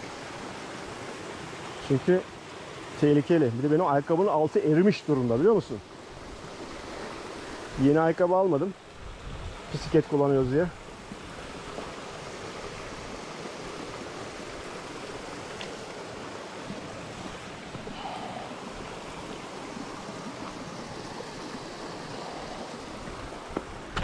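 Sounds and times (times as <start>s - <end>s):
stream water rushing over weir: 0.0s - 24.0s.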